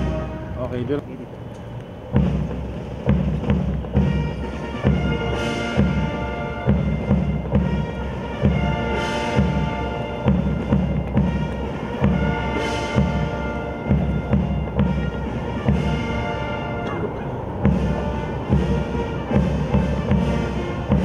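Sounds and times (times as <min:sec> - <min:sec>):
band playing a march: 0:00.0 - 0:01.4, 0:02.0 - 0:21.0.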